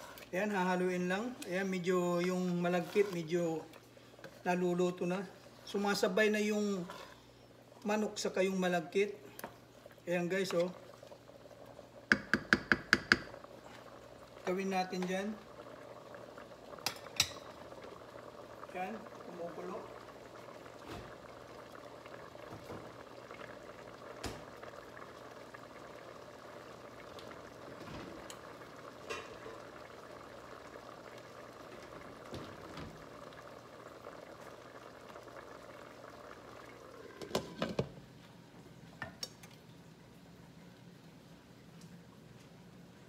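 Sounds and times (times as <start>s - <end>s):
soup boiling and bubbling: 0.0s - 43.0s.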